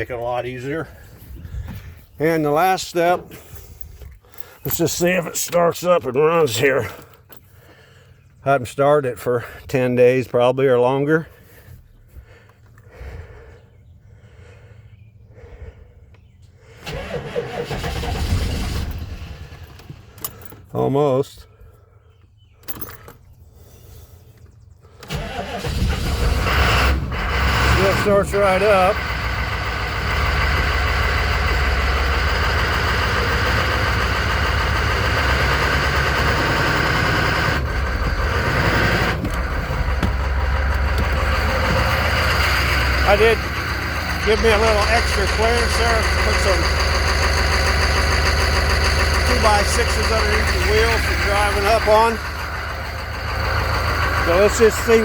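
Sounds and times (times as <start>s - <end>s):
diesel engine cranking: 0.0s - 55.0s.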